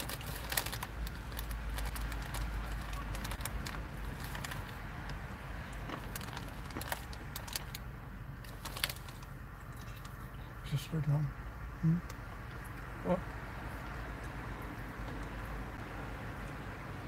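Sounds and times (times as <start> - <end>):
car engine and road rumble: 0.0 - 17.0
cars passing: 0.0 - 17.0.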